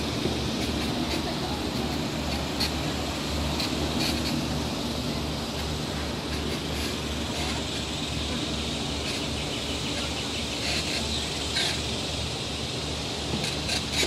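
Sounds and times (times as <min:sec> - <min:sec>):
wheelchair rolling on brick path: 0:00.0 - 0:12.1.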